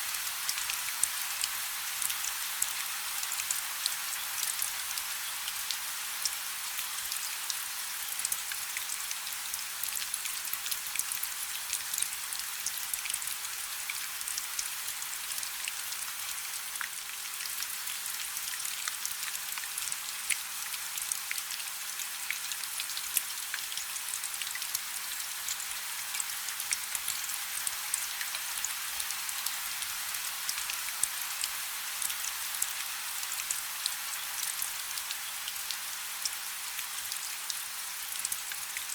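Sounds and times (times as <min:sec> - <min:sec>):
steady rain: 0:00.0 - 0:38.9
raindrops ticking on a surface: 0:00.1 - 0:38.9.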